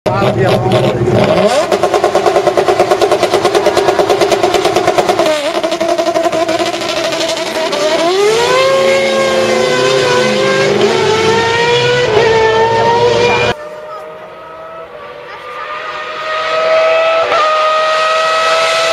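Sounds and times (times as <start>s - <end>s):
race car engine revving: 0.1s - 18.9s.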